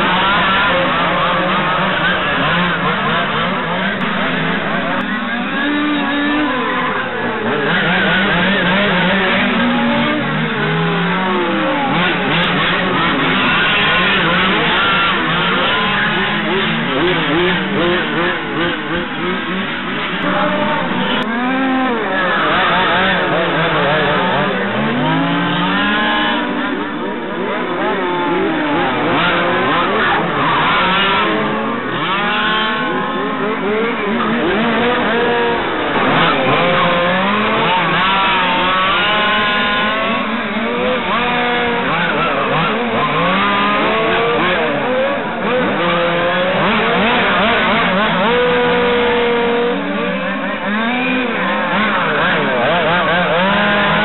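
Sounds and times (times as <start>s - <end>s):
small engines buzzing and revving: 0.0s - 54.0s.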